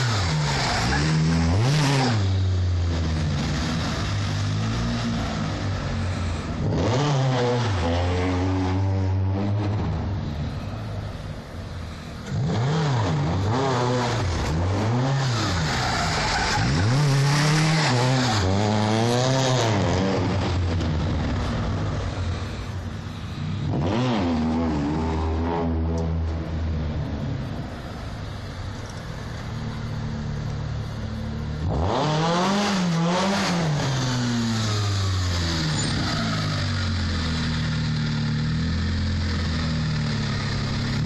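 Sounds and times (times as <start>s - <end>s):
car engine revving: 0.0s - 10.8s, 11.4s - 41.0s
tyres skidding: 0.0s - 41.0s.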